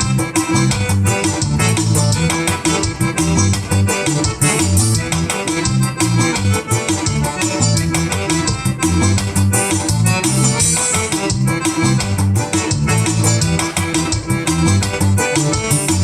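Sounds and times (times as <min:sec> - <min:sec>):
bass line: 0:00.0 - 0:16.0
keyboard melody: 0:00.0 - 0:16.0
percussion beat: 0:00.0 - 0:16.0.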